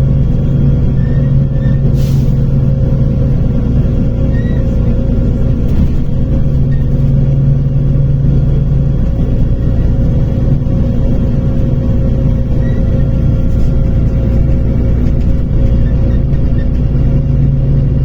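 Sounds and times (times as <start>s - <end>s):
bus engine droning: 0.0s - 18.0s.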